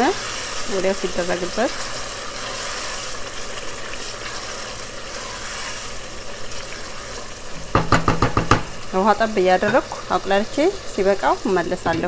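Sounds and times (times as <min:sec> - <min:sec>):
stew sizzling and bubbling in a pot: 0:00.0 - 0:12.0.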